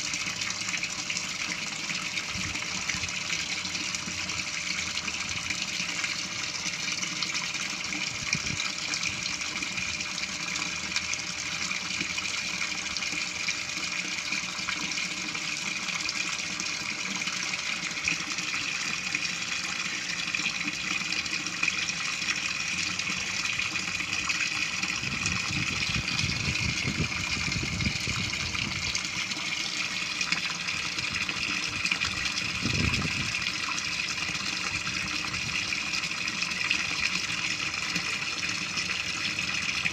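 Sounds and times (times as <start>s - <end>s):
water pouring into fish tank: 0.0s - 39.9s.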